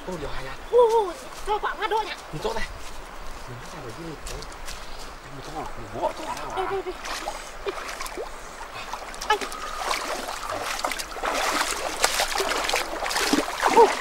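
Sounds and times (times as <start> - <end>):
stream flowing: 0.0 - 14.0
footsteps wading through water: 0.8 - 14.0.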